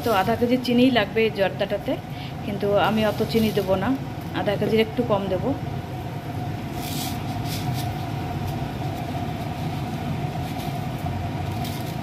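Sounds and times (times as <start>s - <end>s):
faint constant whine: 0.0s - 12.0s.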